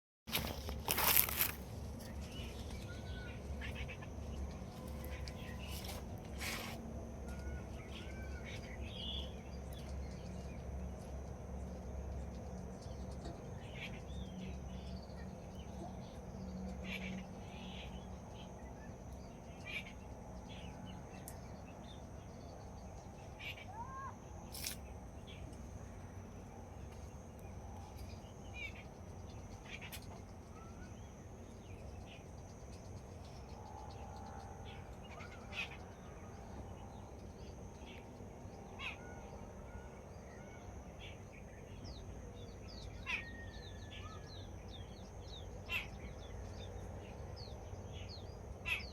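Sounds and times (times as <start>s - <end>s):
steady low background noise: 0.3s - 48.9s.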